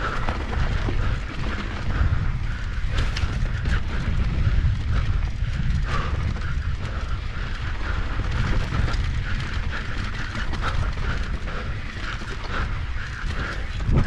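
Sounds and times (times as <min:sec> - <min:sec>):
bike clattering over bumps: 0:00.0 - 0:14.0
wind rumble on microphone: 0:00.0 - 0:14.0.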